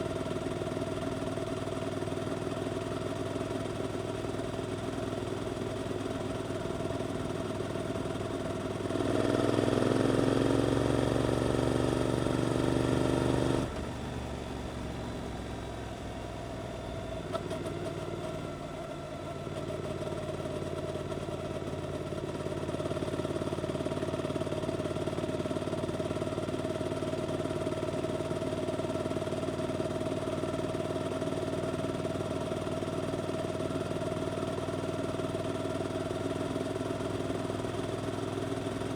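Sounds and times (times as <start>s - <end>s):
motorcycle engine: 0.0s - 15.9s, 17.2s - 38.9s.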